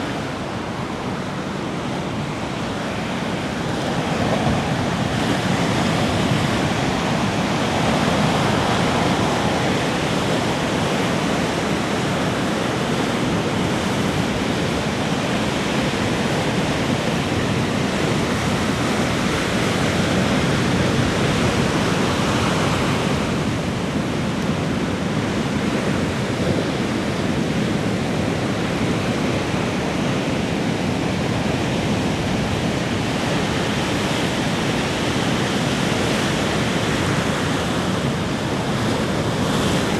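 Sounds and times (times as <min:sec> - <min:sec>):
ocean waves on beach: 0:00.0 - 0:39.9.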